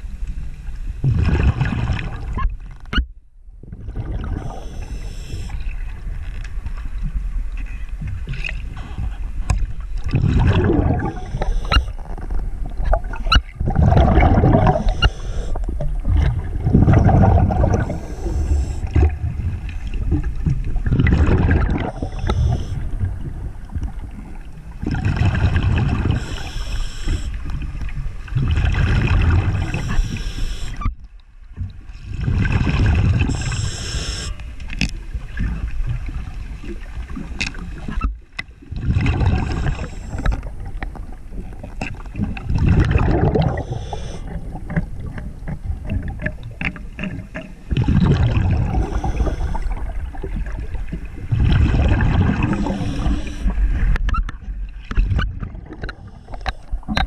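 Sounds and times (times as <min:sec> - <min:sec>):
underwater rushing and bubbling: 0:00.0 - 0:57.0.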